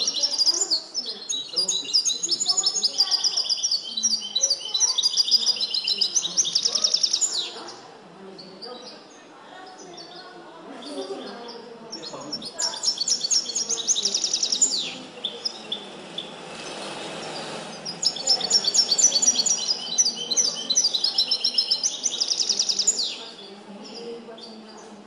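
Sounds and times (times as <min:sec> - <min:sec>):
goldfinch singing trills: 0:00.0 - 0:24.8.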